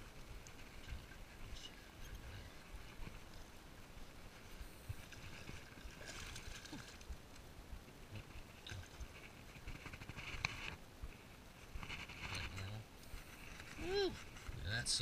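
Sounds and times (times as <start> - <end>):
faint water splashing: 0.0 - 14.4.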